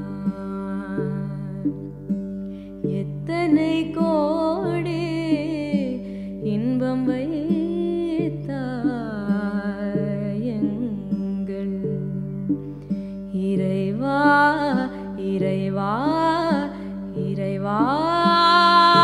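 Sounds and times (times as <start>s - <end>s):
plucked string drone: 0.0s - 19.0s
woman singing ornamented melody: 0.0s - 19.0s.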